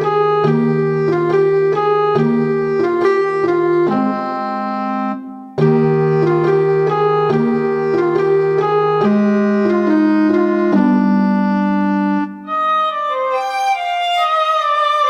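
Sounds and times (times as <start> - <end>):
keyboard chords and melody: 0.0 - 15.0.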